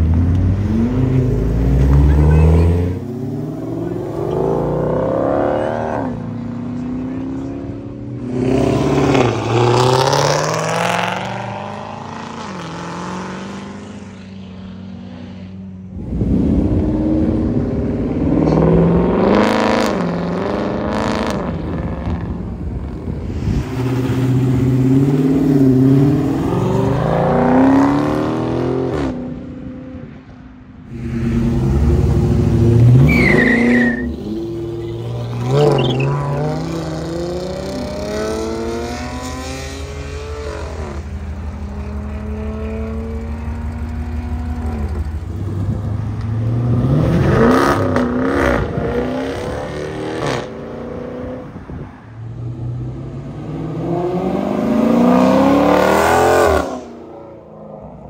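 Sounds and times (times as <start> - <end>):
cars accelerating hard: 0.0 - 30.1, 30.8 - 58.0.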